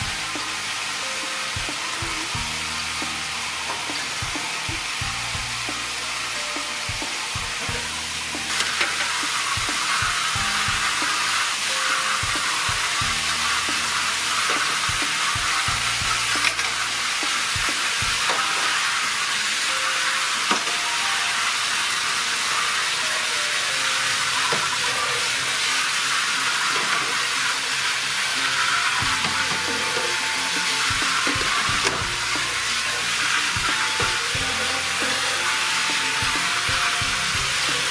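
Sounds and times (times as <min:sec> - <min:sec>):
water jet spraying into basin: 0:00.0 - 0:37.9
plates and cutlery clinking: 0:00.1 - 0:21.4, 0:22.6 - 0:37.9.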